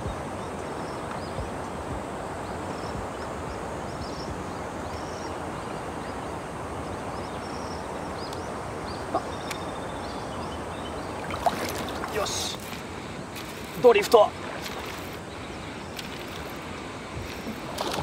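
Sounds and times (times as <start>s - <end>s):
rushing water: 0.0s - 18.0s
small birds chirping: 0.0s - 18.0s.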